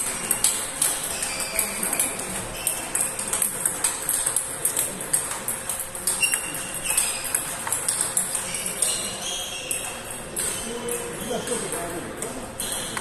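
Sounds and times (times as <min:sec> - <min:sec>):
table tennis balls clicking: 0:00.0 - 0:13.0.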